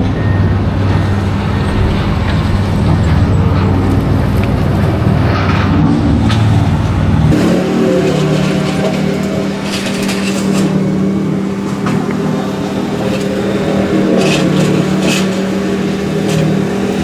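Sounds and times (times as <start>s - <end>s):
hydraulic pump humming: 0.0s - 17.0s
short clatters: 0.8s - 17.0s.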